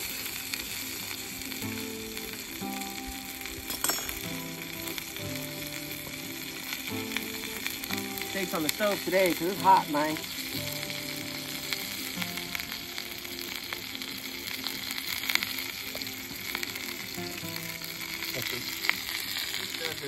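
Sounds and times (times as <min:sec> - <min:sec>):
sharp crackles: 0:00.0 - 0:20.0
steaks sizzling in a pan: 0:00.0 - 0:20.0.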